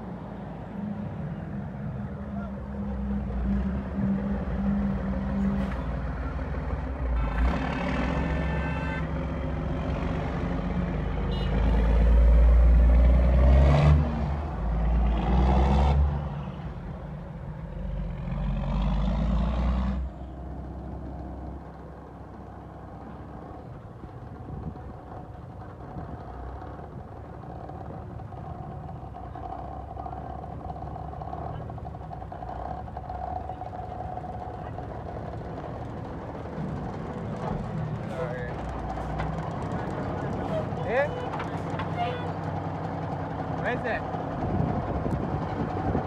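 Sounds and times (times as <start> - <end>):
dump truck accelerating past: 0.0 - 46.0
truck engine rumble: 0.0 - 46.0.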